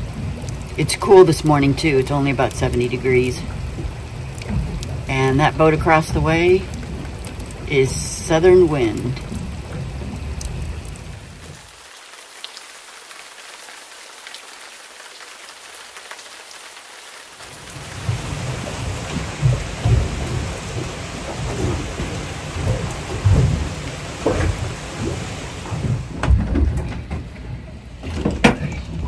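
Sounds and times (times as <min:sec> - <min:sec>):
rain falling on water: 0:00.0 - 0:27.2.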